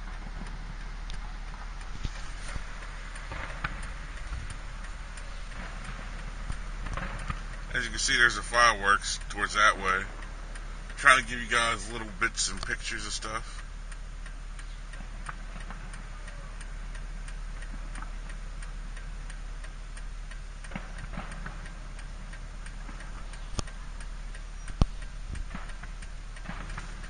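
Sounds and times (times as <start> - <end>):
light regular ticking: 0.0 - 27.0
sharp pops: 0.0 - 27.0
vehicle engine rumble: 0.0 - 27.0.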